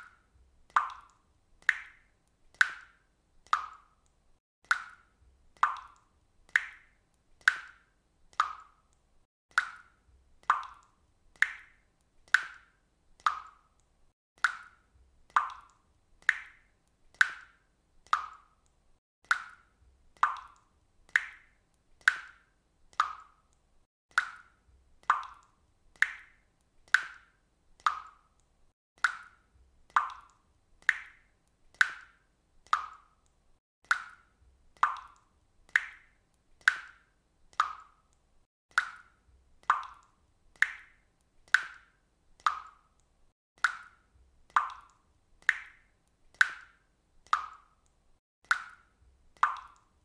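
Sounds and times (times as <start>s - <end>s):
water drops plopping into water: 0.0s - 50.0s.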